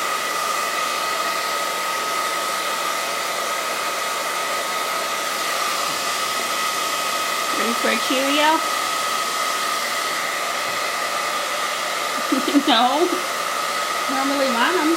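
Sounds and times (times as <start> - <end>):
hair dryer running: 0.0 - 14.9.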